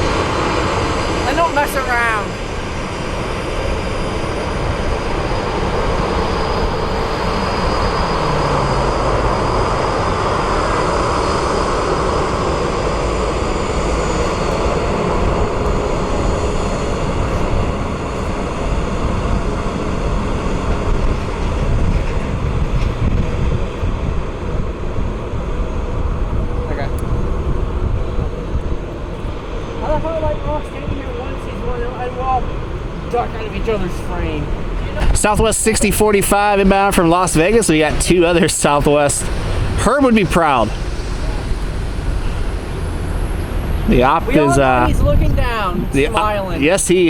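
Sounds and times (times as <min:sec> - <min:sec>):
jet engines roaring: 0:00.0 - 0:47.0
low falling tone: 0:00.0 - 0:47.0
thin high whine: 0:00.0 - 0:47.0.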